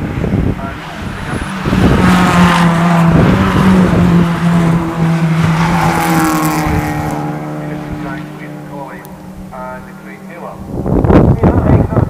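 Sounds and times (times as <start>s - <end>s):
race cars passing: 0.0s - 12.0s.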